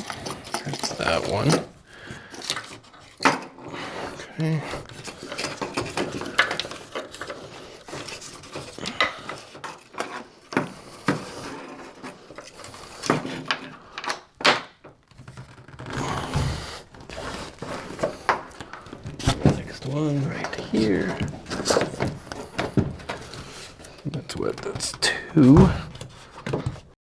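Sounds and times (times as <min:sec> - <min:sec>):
wood scraping: 0:00.0 - 0:27.0.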